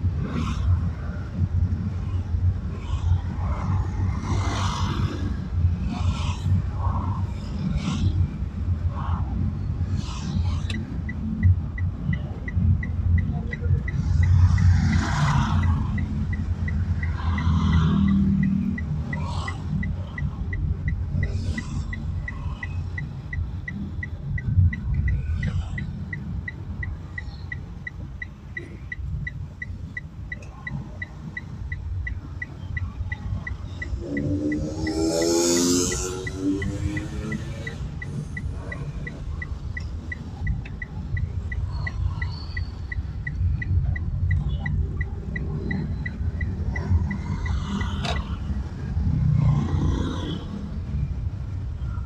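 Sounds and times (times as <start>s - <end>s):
road and engine rumble: 0.0s - 52.0s
vehicles passing: 0.0s - 52.0s
regular ticking: 5.0s - 52.0s.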